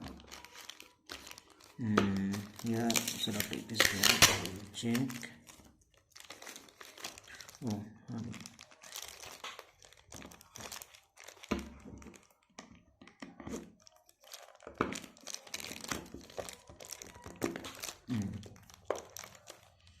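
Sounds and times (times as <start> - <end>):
packaging wrap crinkling: 0.0 - 20.0.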